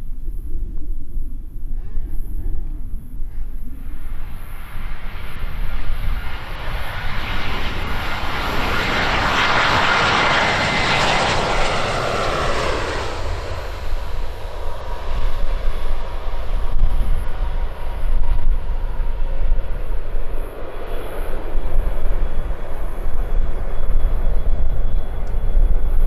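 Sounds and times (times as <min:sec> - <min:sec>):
jet engine noise: 0:00.0 - 0:26.0
low rumble: 0:00.0 - 0:26.0.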